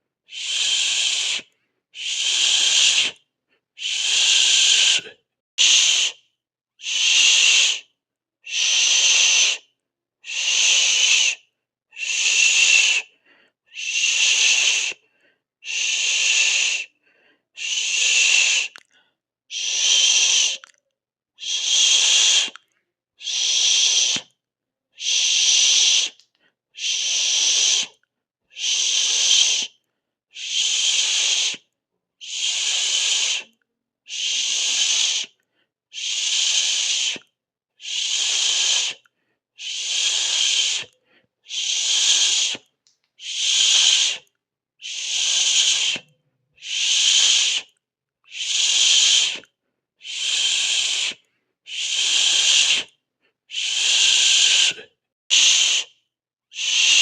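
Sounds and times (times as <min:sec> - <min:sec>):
person hissing shh: 0:00.3 - 0:03.2, 0:03.8 - 0:07.9, 0:08.5 - 0:09.6, 0:10.2 - 0:11.4, 0:12.0 - 0:18.8, 0:19.5 - 0:20.6, 0:21.4 - 0:22.6, 0:23.2 - 0:24.4, 0:25.0 - 0:26.2, 0:26.8 - 0:57.0.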